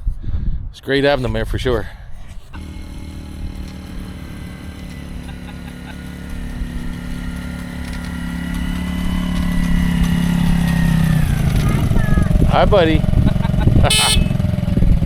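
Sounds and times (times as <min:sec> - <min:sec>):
small motor running: 0:02.3 - 0:14.4.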